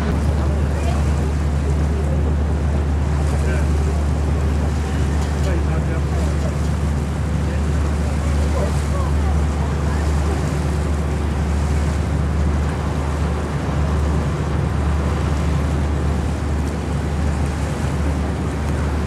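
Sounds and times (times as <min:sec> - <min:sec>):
boat engine humming: 0:00.0 - 0:19.0
water rushing: 0:00.0 - 0:19.0.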